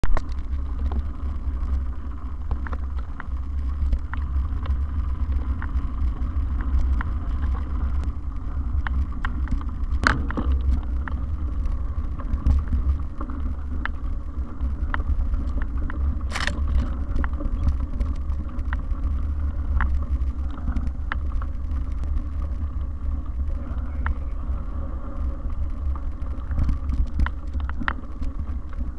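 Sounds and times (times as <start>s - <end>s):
bike clicks and rattles: 0.0s - 28.9s
bike rumbling over dirt trail: 0.0s - 28.9s.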